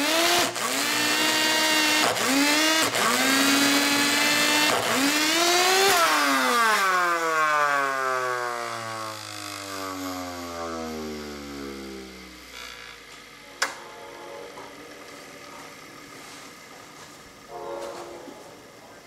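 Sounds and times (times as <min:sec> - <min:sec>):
vacuum motor whining: 0:00.0 - 0:19.0.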